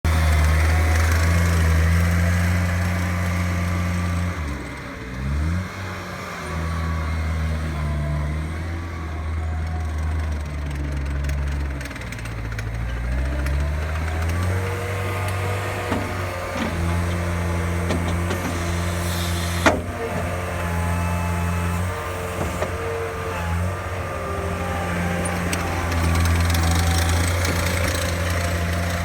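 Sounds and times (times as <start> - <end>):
loader diesel engine running: 0.0 - 29.0.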